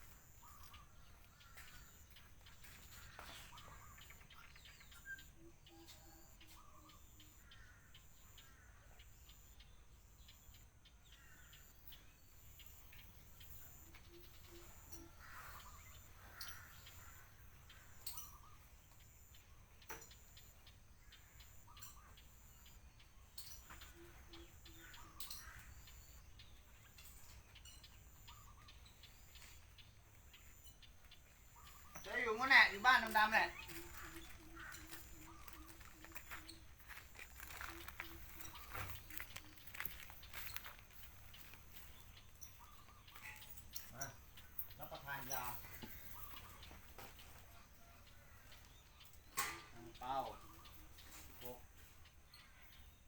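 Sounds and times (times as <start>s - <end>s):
faint birds chirping: 0.0s - 53.0s.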